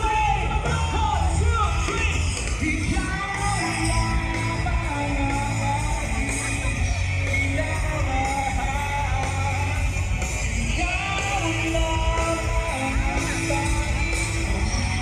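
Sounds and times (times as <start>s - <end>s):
live rock band: 0.0s - 15.0s
person singing: 0.0s - 15.0s.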